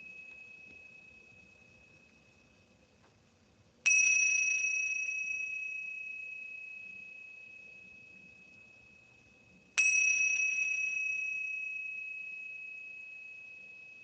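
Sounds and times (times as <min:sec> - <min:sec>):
meditation bell ringing: 0:00.0 - 0:02.9, 0:03.8 - 0:14.0.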